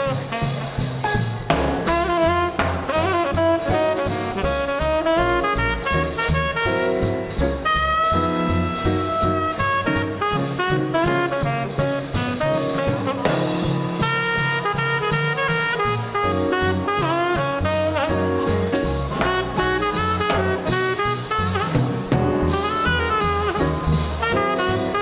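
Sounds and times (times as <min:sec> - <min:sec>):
swing band playing: 0:00.0 - 0:25.0.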